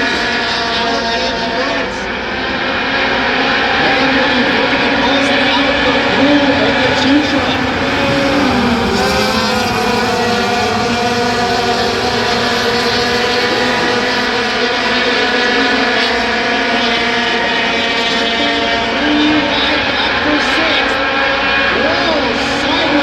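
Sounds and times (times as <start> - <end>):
racing truck engines droning: 0.0 - 23.0.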